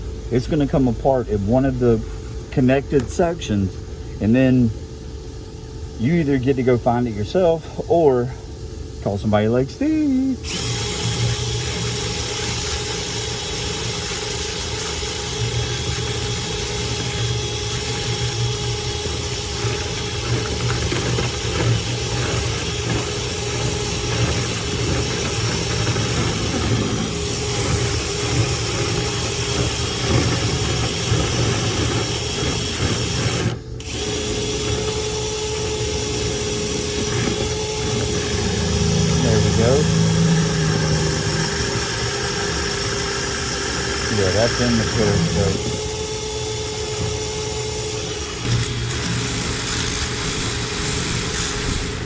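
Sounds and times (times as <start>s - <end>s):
power drill spinning brush rod: 10.1s - 52.0s.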